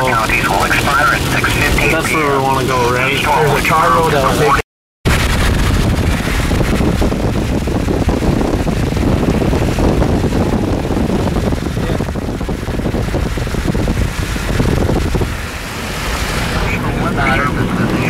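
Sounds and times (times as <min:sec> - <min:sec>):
tyre and road noise: 0:00.0 - 0:18.0
wind buffeting microphone: 0:00.0 - 0:18.0.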